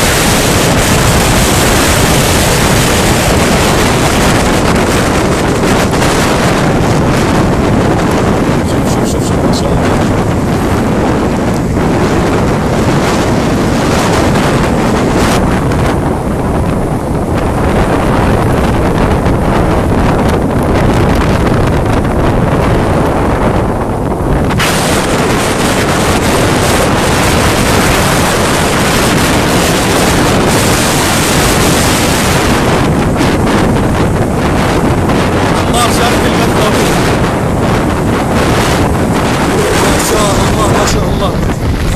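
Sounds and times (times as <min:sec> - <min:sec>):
sea waves: 0:00.0 - 0:20.9, 0:21.5 - 0:41.9
wind buffeting microphone: 0:00.0 - 0:41.9.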